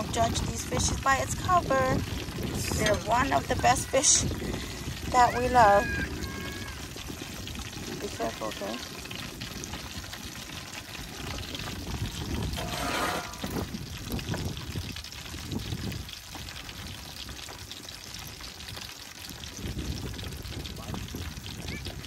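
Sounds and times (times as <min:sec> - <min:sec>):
fish deep frying in hot oil: 0:00.0 - 0:22.0.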